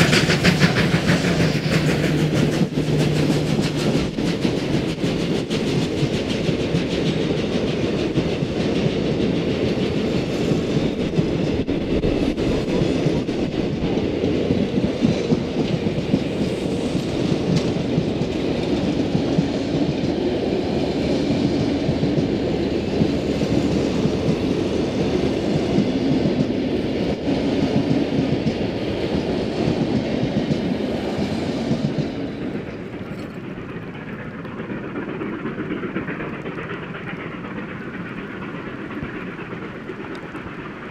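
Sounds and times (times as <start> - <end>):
train wheels rumbling on rails: 0.0 - 40.9
wheels clacking over rail joints: 0.0 - 40.9.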